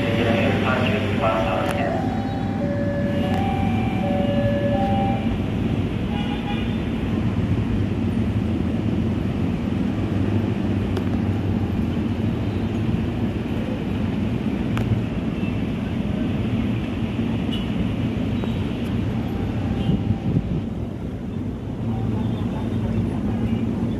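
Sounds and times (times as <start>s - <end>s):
road traffic rumble: 0.0s - 23.9s.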